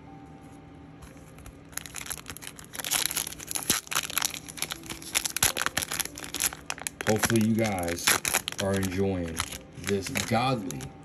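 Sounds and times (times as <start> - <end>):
foil wrapper crumpled and torn: 1.3 - 11.0.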